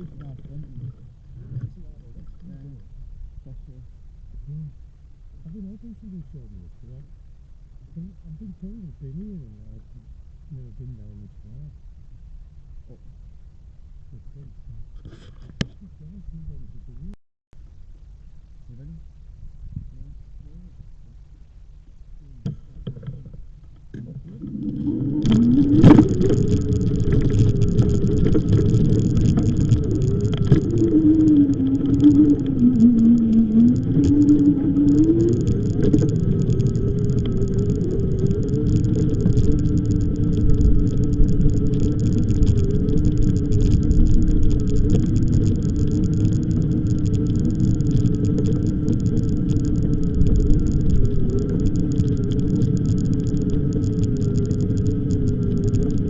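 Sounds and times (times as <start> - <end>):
wavering motor hum: 0.0 - 56.0
wind and road noise rumble: 0.0 - 56.0.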